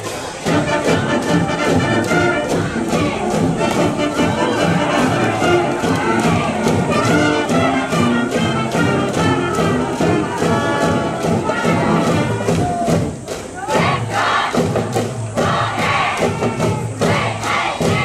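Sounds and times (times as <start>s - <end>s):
brass band playing: 0.0s - 18.0s
crowd chanting in unison: 0.1s - 18.0s.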